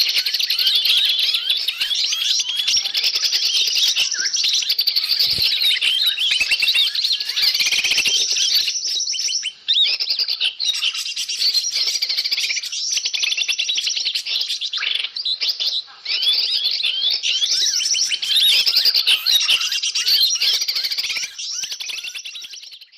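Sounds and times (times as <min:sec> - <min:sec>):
small birds chirping and twittering: 0:00.0 - 0:22.9.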